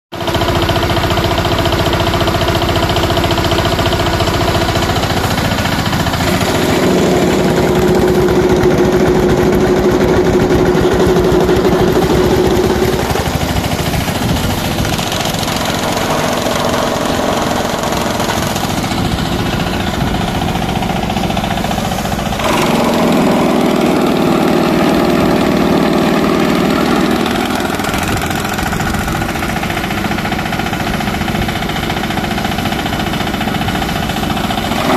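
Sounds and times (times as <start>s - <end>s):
tractor diesel engine running: 0.1s - 34.9s
chaff cutter chopping straw: 0.2s - 34.9s.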